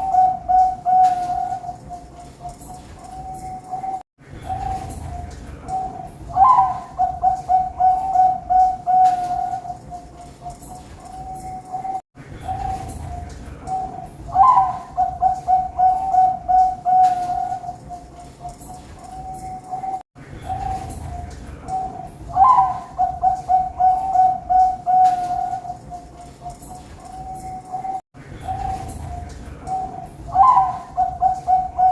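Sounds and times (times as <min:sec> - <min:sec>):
doves cooing: 0:00.0 - 0:31.9.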